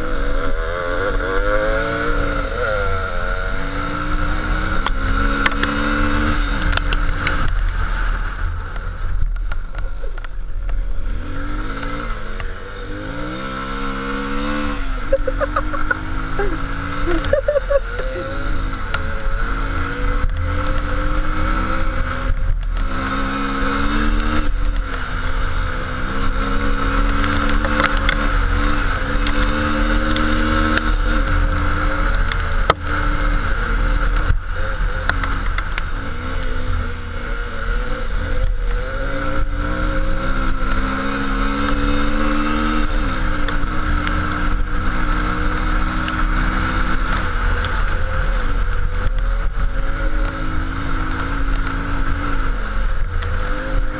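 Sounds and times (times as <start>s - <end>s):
vehicle engine revving: 0.0s - 53.9s.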